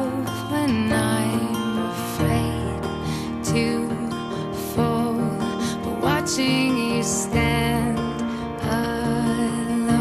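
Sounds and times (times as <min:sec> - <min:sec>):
soft background music with guitar: 0:00.0 - 0:10.0.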